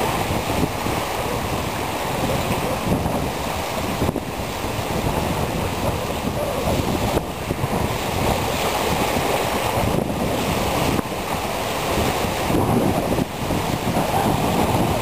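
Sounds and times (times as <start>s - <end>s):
waves lapping on shore: 0.0s - 15.0s
wind buffeting microphone: 0.0s - 15.0s.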